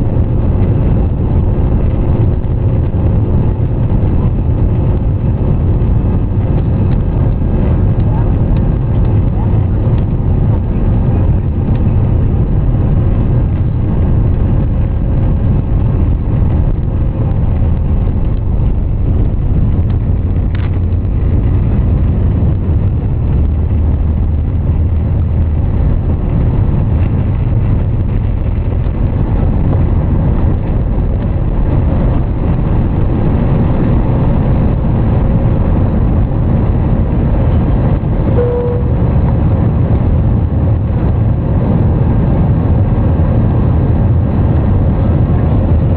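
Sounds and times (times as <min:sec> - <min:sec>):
jet engine cabin rumble: 0:00.0 - 0:45.9.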